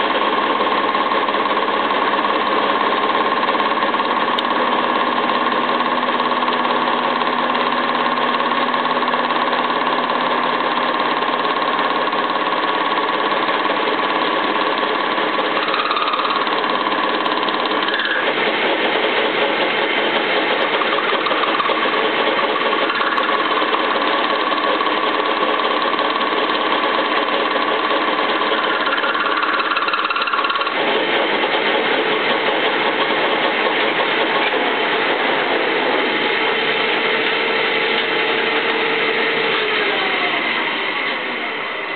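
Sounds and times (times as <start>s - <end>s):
lathe tool cutting metal: 0.0s - 41.9s
machine whine: 0.0s - 41.9s.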